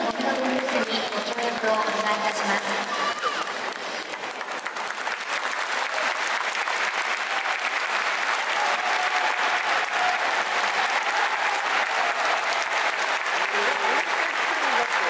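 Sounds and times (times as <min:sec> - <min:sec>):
stadium crowd clapping: 0:00.0 - 0:15.0.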